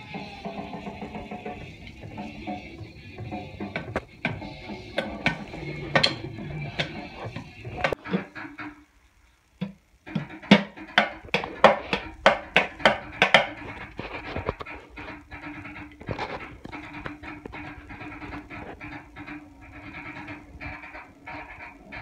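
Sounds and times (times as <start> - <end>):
sticks drumming on tins: 0.0 - 8.8, 9.6 - 22.0.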